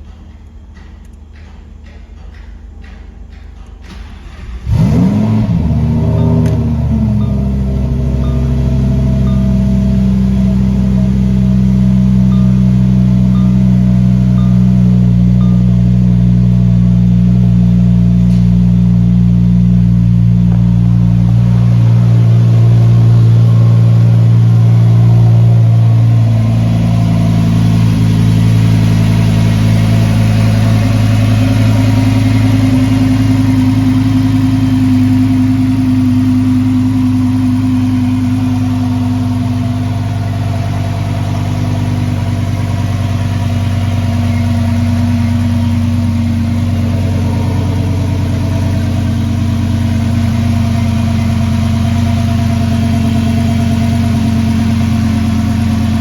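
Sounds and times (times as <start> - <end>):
sports car engine idling: 3.8 - 56.0.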